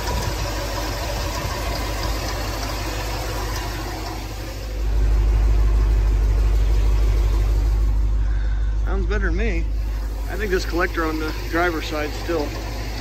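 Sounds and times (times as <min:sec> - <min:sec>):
alternator rattle: 0:00.0 - 0:13.0
car engine idling: 0:00.0 - 0:13.0.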